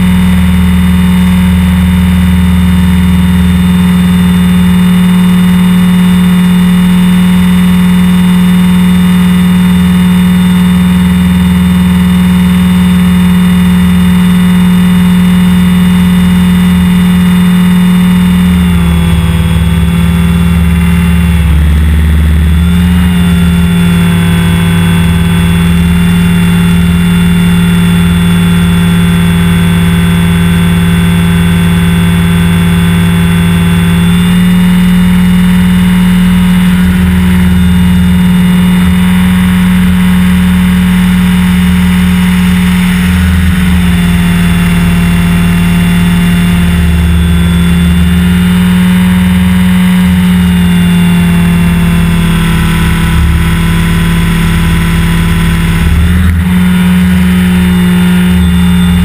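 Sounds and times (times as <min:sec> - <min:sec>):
fluttering low rumble: 0:00.0 - 0:50.4
rc helicopter motor whine: 0:00.0 - 0:59.0.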